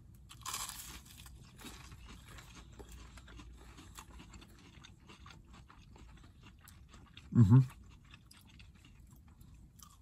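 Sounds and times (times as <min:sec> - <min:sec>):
people chewing crispy food: 0:00.0 - 0:10.0.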